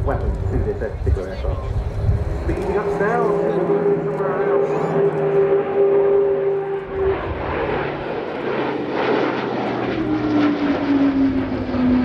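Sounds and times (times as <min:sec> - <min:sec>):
turboprop aircraft flying past: 0:00.0 - 0:12.0.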